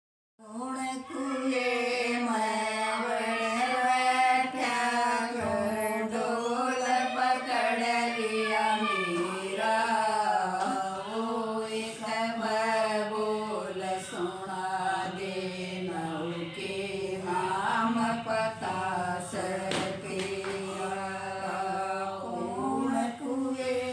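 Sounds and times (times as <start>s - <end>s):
women singing unaccompanied: 0.4s - 23.9s.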